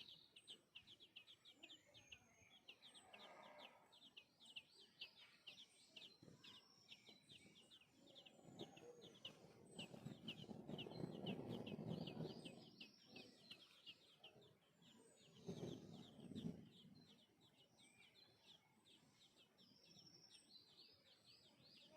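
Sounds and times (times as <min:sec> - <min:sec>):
chicks chirping: 0:00.0 - 0:21.9.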